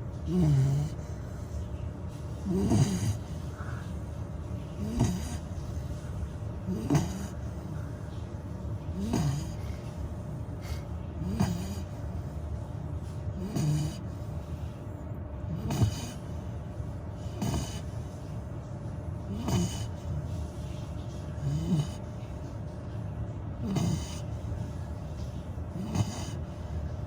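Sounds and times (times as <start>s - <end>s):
puppy snoring: 0.0s - 27.0s.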